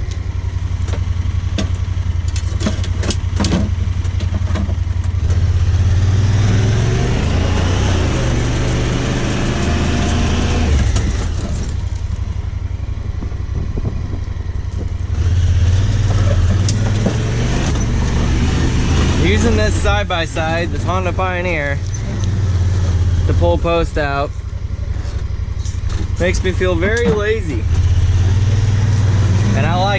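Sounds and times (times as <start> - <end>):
utility vehicle engine driving: 0.0 - 29.9.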